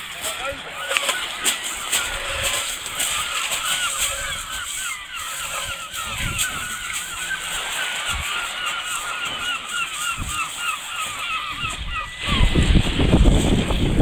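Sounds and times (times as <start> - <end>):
footsteps crunching on shingle: 0.0 - 14.0
gulls calling: 0.0 - 14.0.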